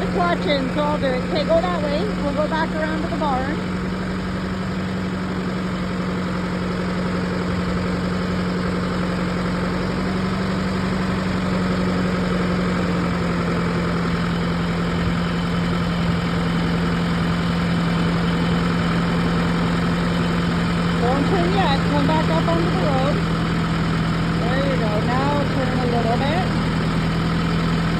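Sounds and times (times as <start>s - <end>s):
tractor engine running: 0.0s - 27.9s.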